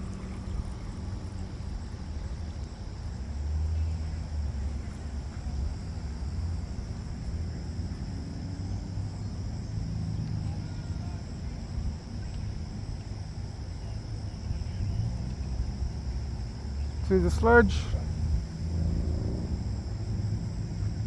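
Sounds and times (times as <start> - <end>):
wind buffeting microphone: 0.0 - 13.4, 14.4 - 21.0
insects trilling: 0.0 - 21.0.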